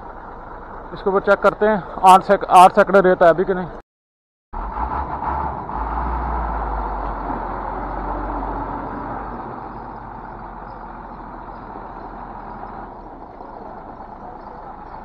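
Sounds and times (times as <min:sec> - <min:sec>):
dump truck diesel engine rumble: 0:00.0 - 0:03.8, 0:04.6 - 0:15.0.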